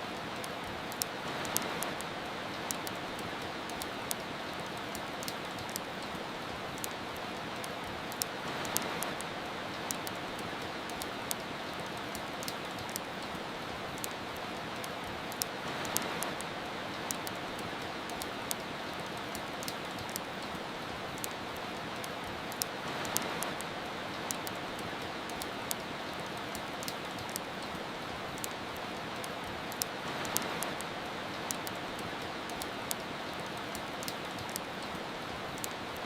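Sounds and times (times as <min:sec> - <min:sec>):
soft rain hiss: 0:00.0 - 0:36.0
wood fire crackling: 0:00.0 - 0:36.0.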